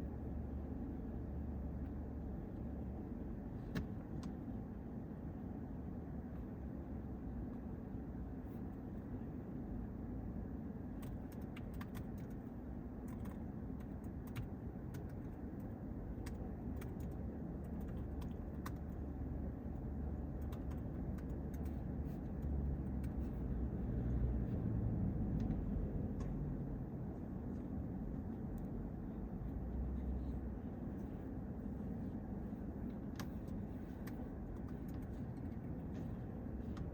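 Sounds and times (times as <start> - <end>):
car rumbling: 0.0 - 36.9.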